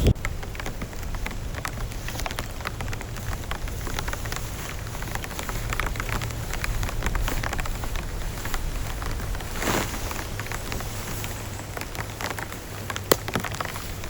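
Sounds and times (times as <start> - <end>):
low rumble: 0.0 - 12.2
heavy rain falling: 0.0 - 14.0
raindrops tapping on surface: 0.1 - 14.0.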